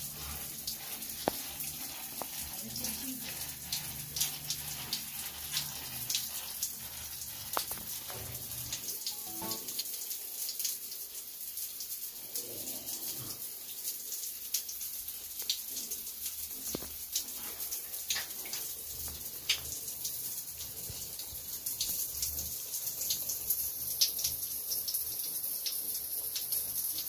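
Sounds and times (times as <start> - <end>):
water spraying on concrete floor: 0.0 - 27.0.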